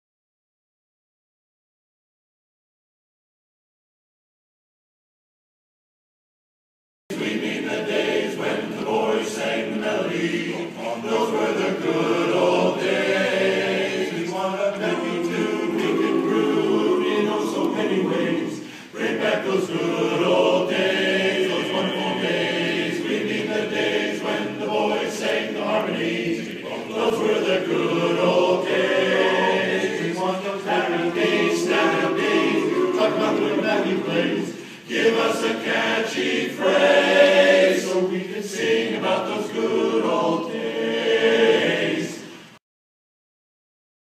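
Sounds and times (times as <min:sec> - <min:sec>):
barbershop chorus singing a cappella: 0:07.1 - 0:42.6.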